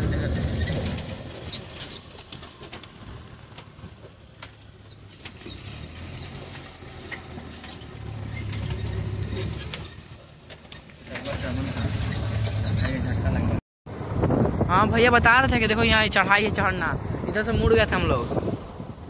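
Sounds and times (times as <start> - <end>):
van engine hum: 0.0 - 15.3.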